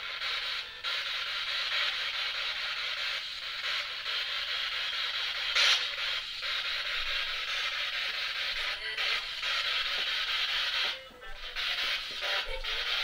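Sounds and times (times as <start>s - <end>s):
radio hiss from small speaker: 0.0s - 13.0s.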